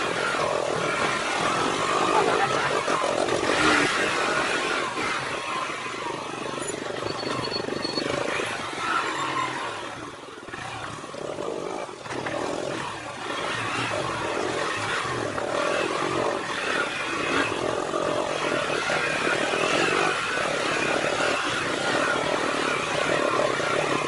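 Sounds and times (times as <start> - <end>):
motorcycle riding: 0.0 - 24.0.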